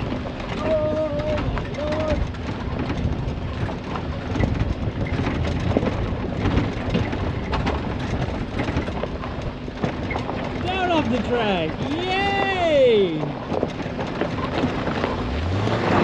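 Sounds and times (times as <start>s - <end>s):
clatter of knocks and rattles: 0.0s - 12.6s, 13.2s - 16.0s
car engine running: 0.0s - 16.0s.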